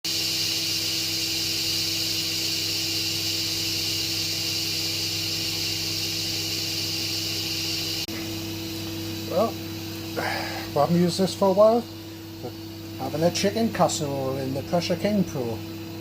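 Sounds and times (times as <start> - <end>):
steam hissing from valve: 0.1 - 8.2, 9.1 - 15.7.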